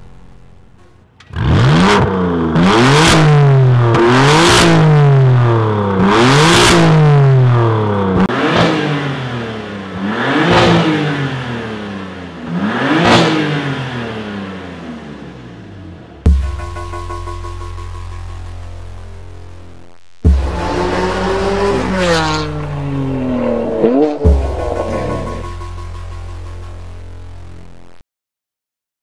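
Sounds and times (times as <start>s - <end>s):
car engine revving: 1.2s - 16.7s, 19.6s - 27.9s.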